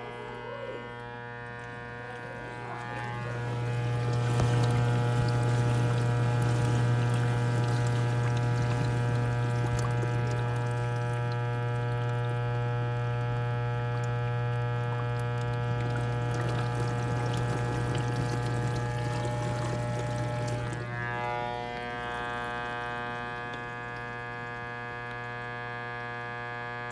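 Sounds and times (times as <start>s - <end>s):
dishwasher low buzz: 0.0s - 26.9s
water moving inside dishwasher: 1.4s - 25.3s.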